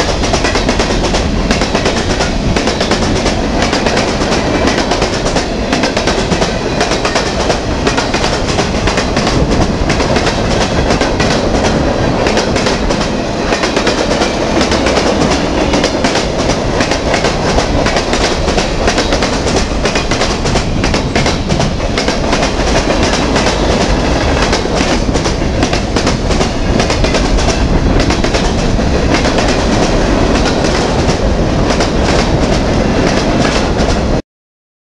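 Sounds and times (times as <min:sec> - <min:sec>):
freight train wheels rumbling: 0:00.0 - 0:34.2
wheel clickety-clack: 0:00.1 - 0:34.1.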